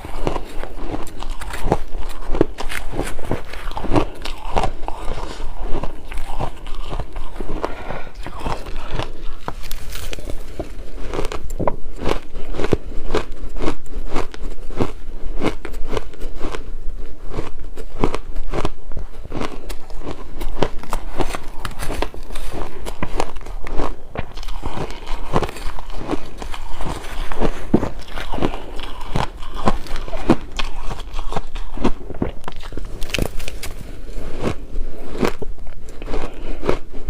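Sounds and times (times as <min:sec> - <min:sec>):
chewing crunchy shaved ice: 0:00.0 - 0:37.0.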